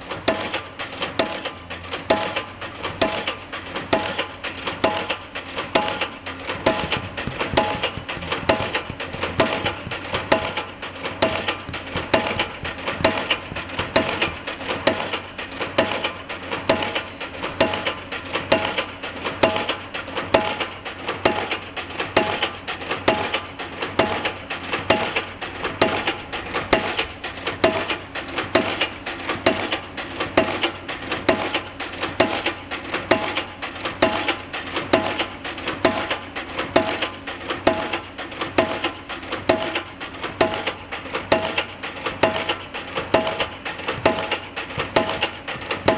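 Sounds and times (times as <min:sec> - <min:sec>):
pile-driving hammer metallic clangs: 0:00.0 - 0:45.9.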